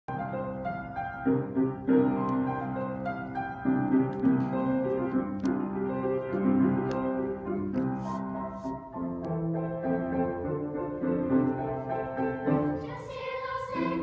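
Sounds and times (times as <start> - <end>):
piano playing chords and melody: 0.1 - 14.0.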